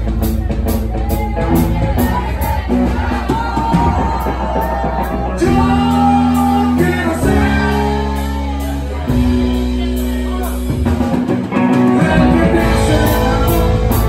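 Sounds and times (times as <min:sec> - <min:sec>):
crowd shouting: 0:00.0 - 0:14.0
live band playing: 0:00.0 - 0:14.0
person singing: 0:00.0 - 0:14.0.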